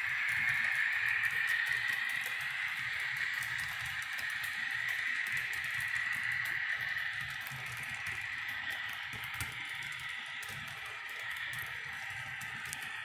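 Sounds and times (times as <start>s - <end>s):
model train wheels ticking: 0.0s - 13.0s
steady hiss: 0.0s - 13.0s.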